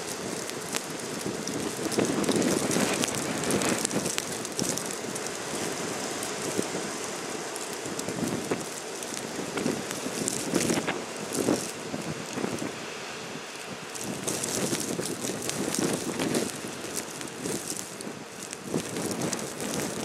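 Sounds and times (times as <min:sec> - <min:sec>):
snow ticking on camera: 0:00.0 - 0:12.9, 0:13.5 - 0:20.0
wind gusting across microphone: 0:00.0 - 0:20.0.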